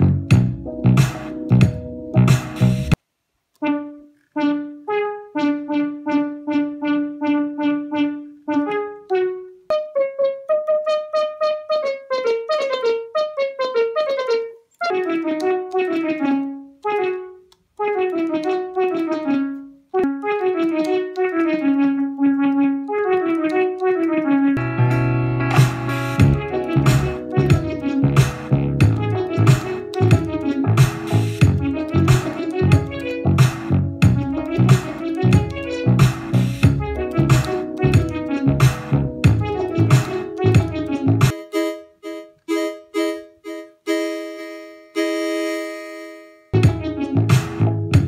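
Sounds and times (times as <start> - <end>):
synthesizer keyboard line: 0.0 - 3.0, 3.6 - 48.0.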